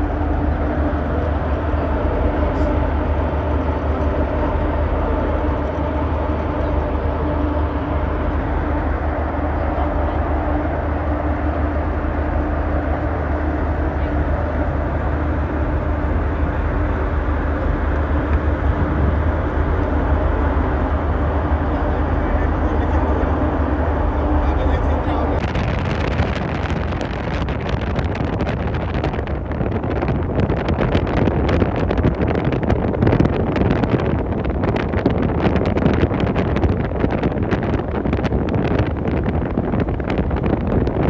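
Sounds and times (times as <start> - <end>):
ferry engine drone: 0.0 - 41.0.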